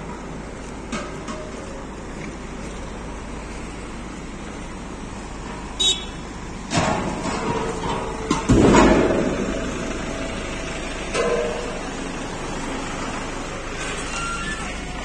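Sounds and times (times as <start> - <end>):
vehicles driving past: 0.0 - 15.0.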